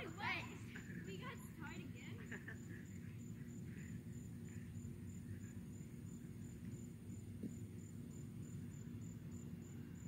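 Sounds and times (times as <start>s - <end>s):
insect chirping: 0.0s - 10.0s
low steady rumble: 0.0s - 10.0s.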